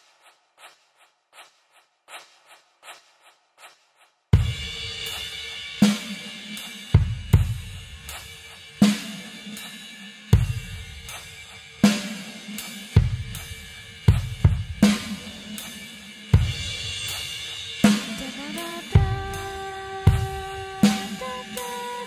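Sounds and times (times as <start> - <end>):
cymbals and hi-hat: 0.0 - 22.0
slow drum-kit beat: 0.0 - 22.0.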